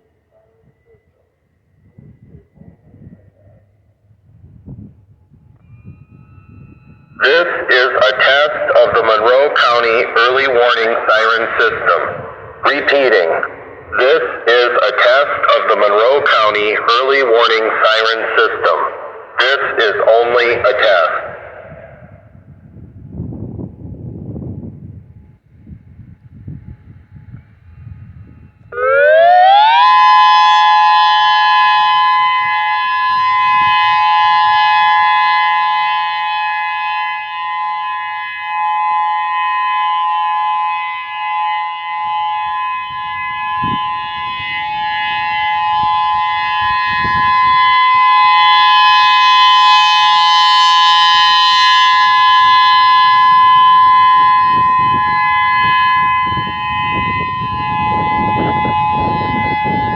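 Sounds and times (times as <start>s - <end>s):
electronic warning siren: 0.0s - 59.9s.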